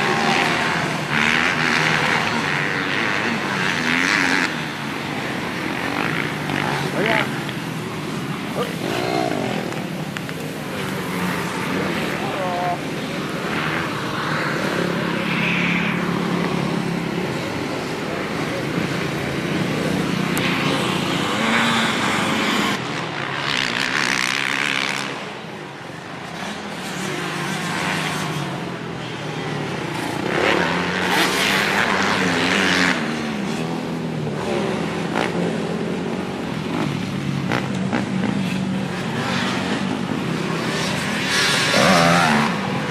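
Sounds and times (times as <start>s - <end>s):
dirt bike engine revving: 0.0s - 25.2s, 30.0s - 42.9s.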